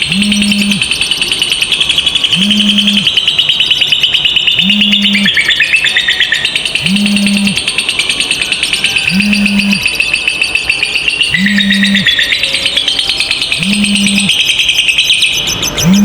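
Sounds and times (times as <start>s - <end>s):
lovebirds chattering trill: 0.0s - 16.0s.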